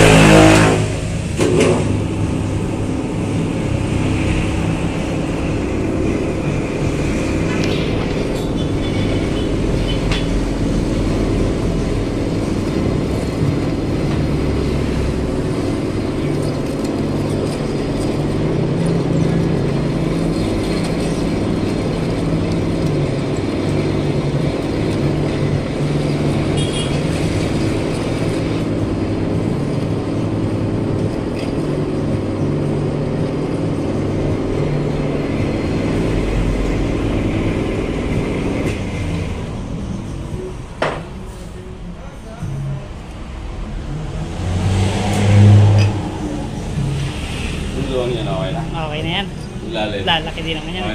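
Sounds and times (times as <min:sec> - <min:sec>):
metal lathe running: 0:00.0 - 0:41.9, 0:42.9 - 0:50.9.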